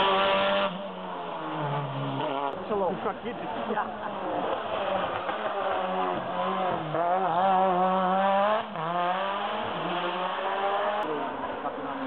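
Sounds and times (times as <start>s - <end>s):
race car accelerating: 0.0s - 12.0s.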